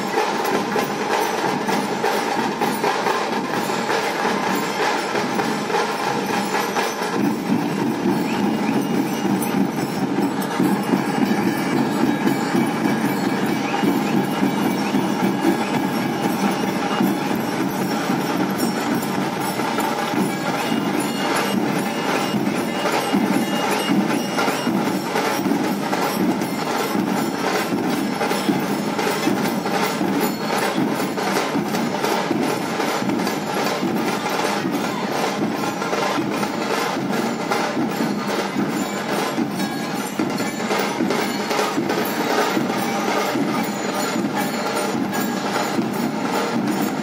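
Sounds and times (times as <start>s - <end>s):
barrel drums beaten together: 0.0s - 47.0s.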